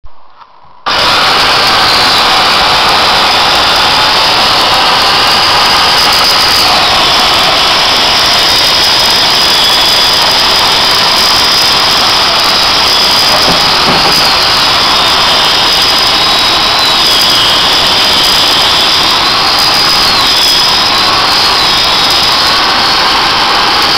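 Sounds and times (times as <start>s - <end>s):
electric chainsaw cutting log: 0.9s - 23.9s.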